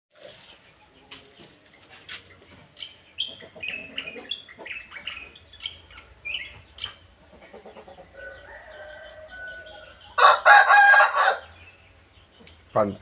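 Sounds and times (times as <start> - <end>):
songbird chirping: 0.1 - 13.0.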